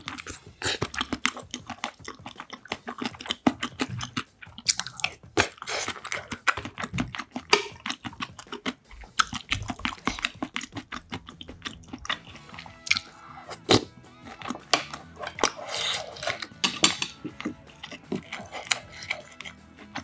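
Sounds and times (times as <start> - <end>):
chewing food with mouth smacks: 0.0 - 20.0.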